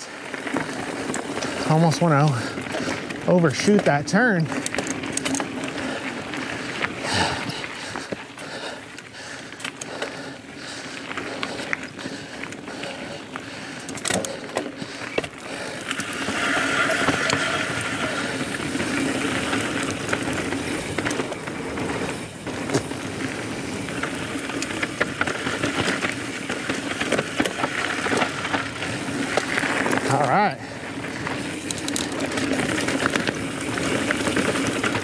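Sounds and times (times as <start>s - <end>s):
bike knocking and rattling: 0.0s - 35.0s
bike tyres rolling on dirt: 0.0s - 35.0s.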